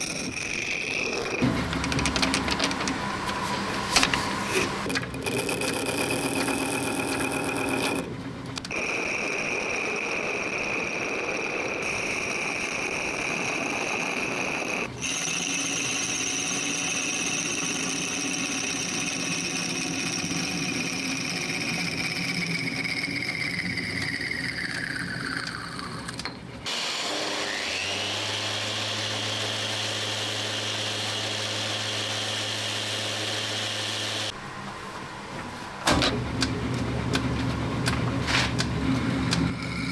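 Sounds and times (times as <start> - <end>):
power tool motor whine: 0.0 - 34.5.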